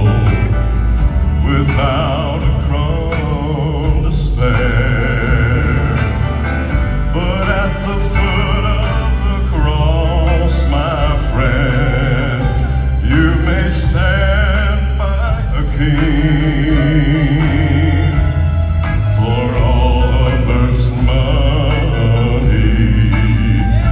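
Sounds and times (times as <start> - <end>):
band with heavy bass: 0.0 - 23.9
male vocal quartet singing: 0.0 - 23.9.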